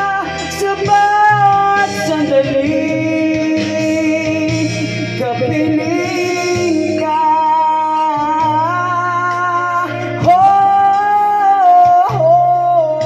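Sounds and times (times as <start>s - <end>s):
backing track with bass and guitar: 0.0s - 13.0s
person singing into a microphone: 0.0s - 13.0s.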